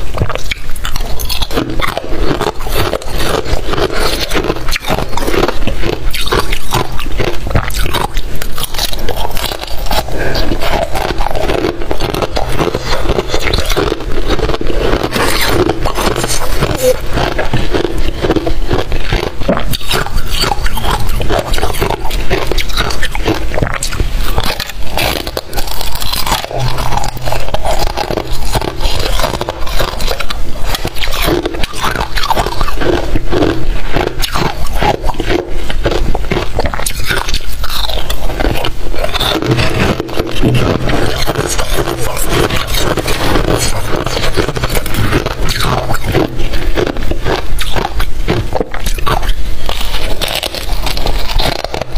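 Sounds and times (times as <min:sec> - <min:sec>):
crunching frost chewing: 0:00.0 - 0:51.9.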